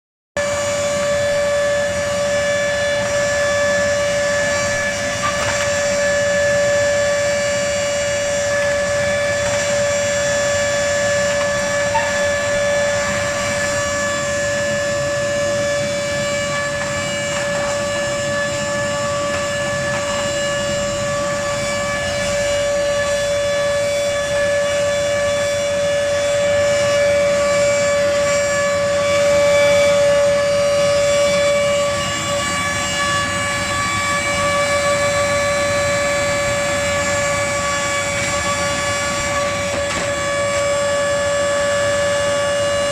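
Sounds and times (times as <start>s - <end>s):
vacuum cleaner running: 0.4s - 42.9s.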